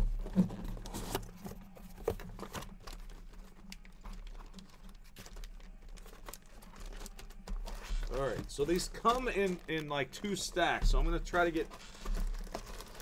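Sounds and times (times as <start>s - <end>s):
boxes clicking and rustling: 0.0s - 13.0s
low electrical hum: 0.0s - 13.0s.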